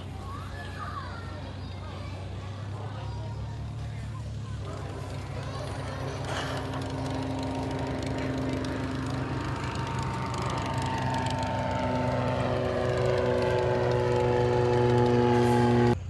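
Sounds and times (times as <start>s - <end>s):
propeller airplane engine: 0.0s - 16.0s.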